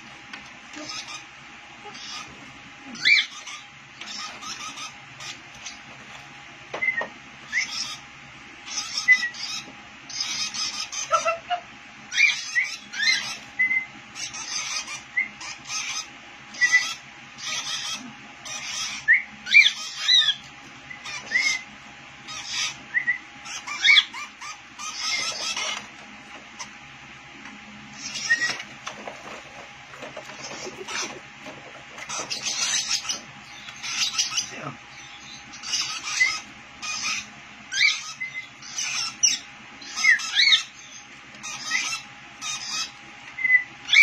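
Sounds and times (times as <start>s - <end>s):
lovebirds chirping: 0.7s - 6.2s, 6.8s - 26.8s, 27.9s - 44.0s.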